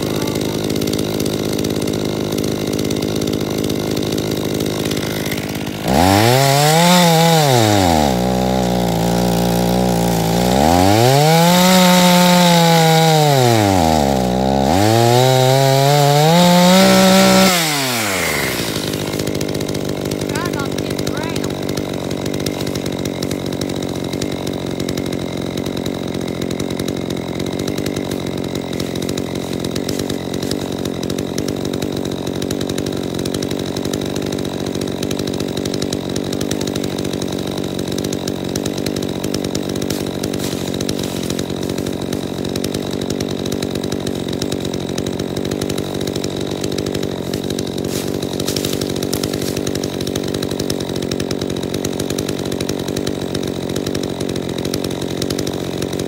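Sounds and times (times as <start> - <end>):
chainsaw idling: 0.0 - 56.0.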